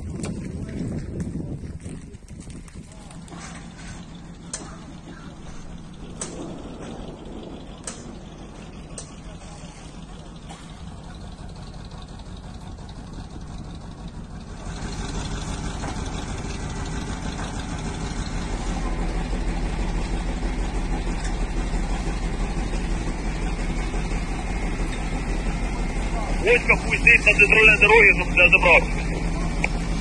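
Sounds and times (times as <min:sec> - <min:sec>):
outdoor noise: 0:00.0 - 0:30.0
vehicle engine idling: 0:00.0 - 0:30.0.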